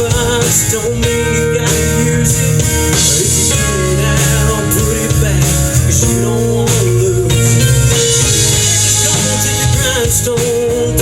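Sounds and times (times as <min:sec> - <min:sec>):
band playing country rock: 0:00.0 - 0:11.0.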